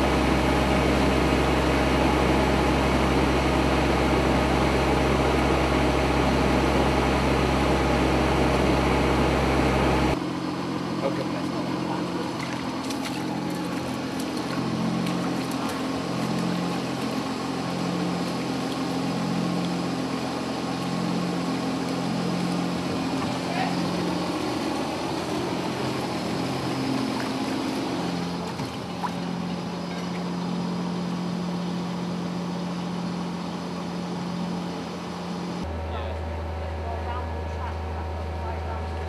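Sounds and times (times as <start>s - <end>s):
pump engine running: 0.0s - 39.0s.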